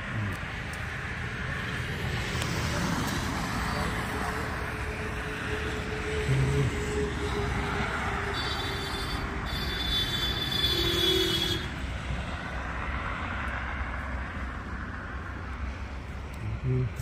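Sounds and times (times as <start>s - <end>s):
highway traffic rushing: 0.0s - 17.0s.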